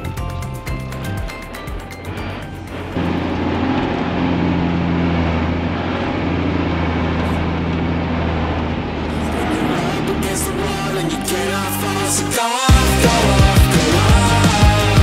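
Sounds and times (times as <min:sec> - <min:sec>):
diesel engine droning: 0:00.0 - 0:15.0
road and cab noise: 0:00.0 - 0:15.0.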